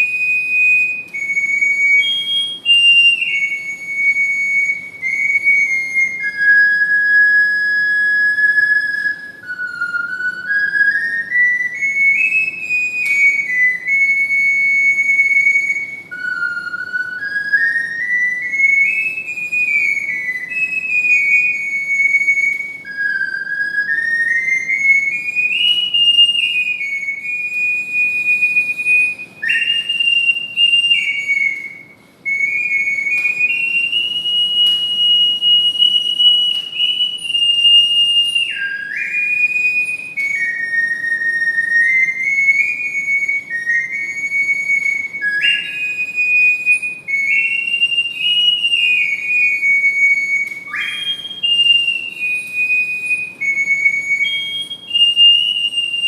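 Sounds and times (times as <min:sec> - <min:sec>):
ocarina slow melody: 0:00.0 - 0:56.0.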